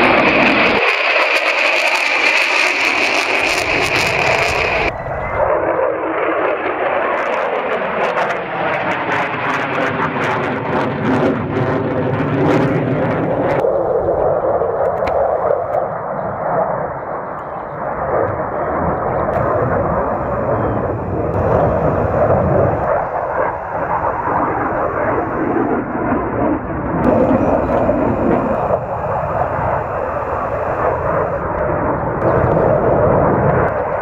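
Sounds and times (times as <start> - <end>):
jet aircraft flying past: 0.0 - 34.0.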